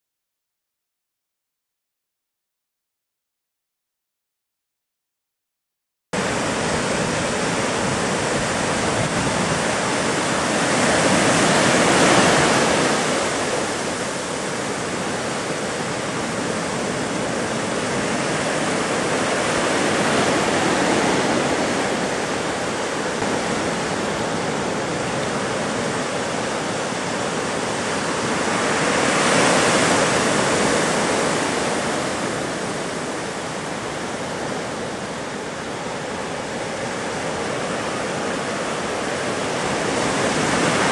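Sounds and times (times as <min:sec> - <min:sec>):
ocean waves breaking: 0:06.2 - 0:40.9.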